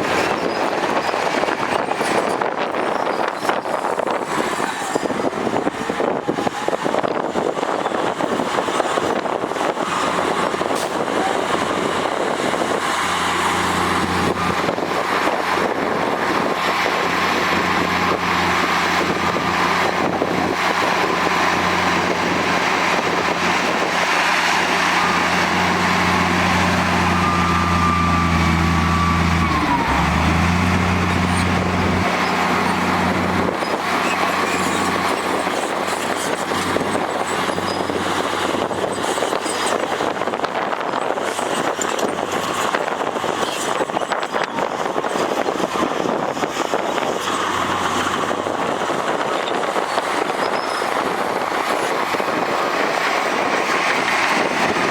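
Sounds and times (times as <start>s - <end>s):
diesel engine running: 0.0s - 54.9s
rough machinery rumble: 0.0s - 54.9s.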